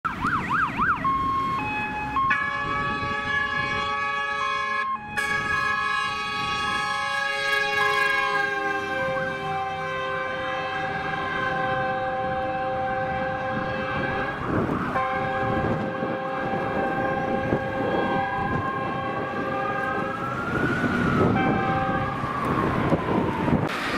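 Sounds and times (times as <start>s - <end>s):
fire engine air horns blaring: 1.3s - 23.9s.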